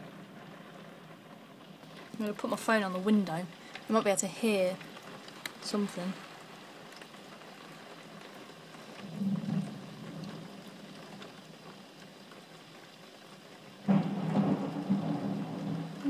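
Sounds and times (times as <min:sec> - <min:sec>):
rain hissing on window: 0:00.0 - 0:16.0.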